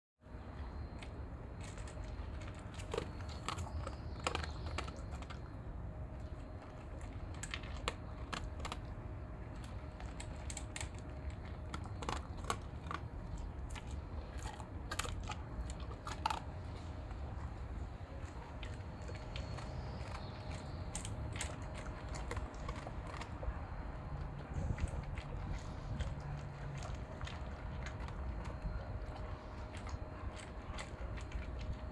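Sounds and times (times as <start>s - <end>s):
dog crunching and chewing food: 0.4s - 31.9s.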